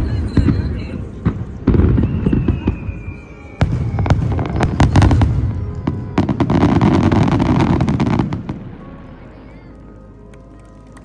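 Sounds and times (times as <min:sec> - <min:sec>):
firework crackling: 0:00.0 - 0:11.0.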